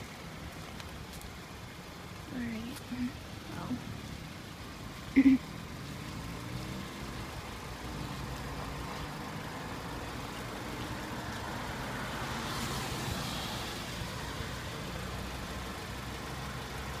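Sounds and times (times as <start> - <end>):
car engine idling: 0.0 - 17.0
passing traffic: 0.0 - 17.0.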